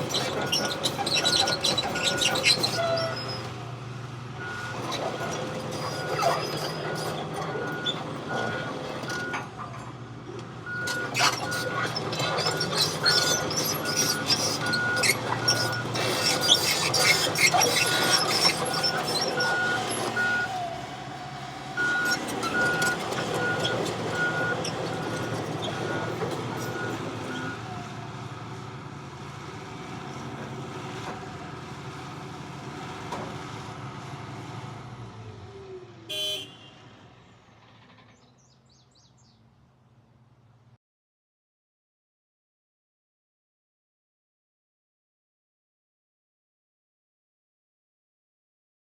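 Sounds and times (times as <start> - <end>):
excavator diesel engine running: 0.0 - 39.4.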